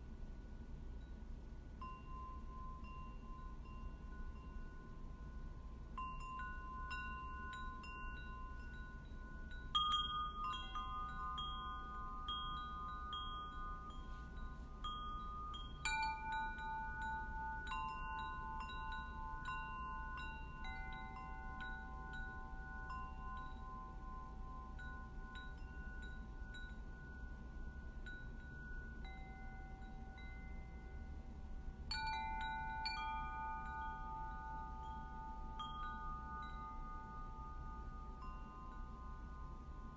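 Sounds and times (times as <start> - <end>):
metallic chimes ringing: 1.0 - 39.9.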